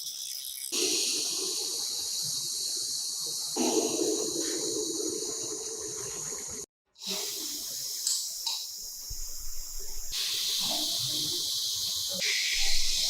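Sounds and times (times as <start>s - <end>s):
steady hiss: 0.1s - 13.0s.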